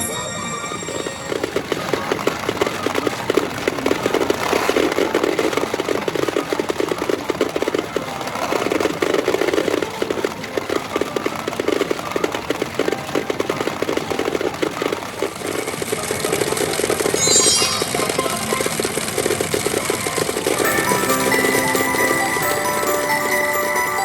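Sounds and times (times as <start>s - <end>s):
pachinko balls clattering: 0.0s - 24.0s.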